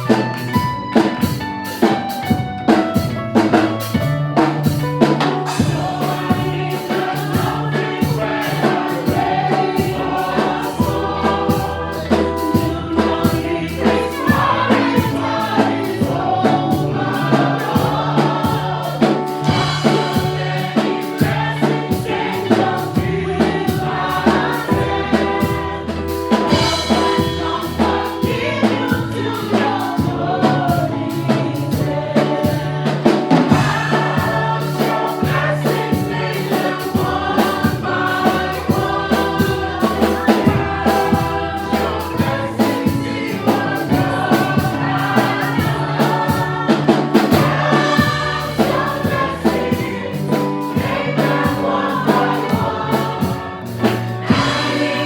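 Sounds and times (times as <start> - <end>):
band with bass and beat: 0.0 - 55.0
gospel choir singing: 0.0 - 55.0.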